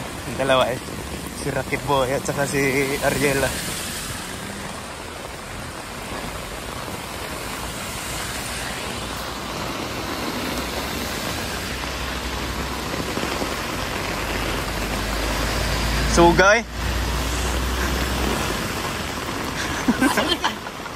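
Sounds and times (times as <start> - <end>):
bus engine: 0.0 - 20.9
heavy rain on road: 0.0 - 20.9.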